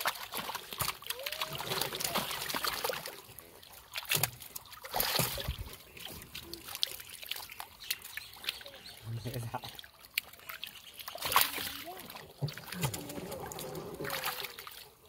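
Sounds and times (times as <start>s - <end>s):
fish thrashing in water: 0.0s - 15.0s.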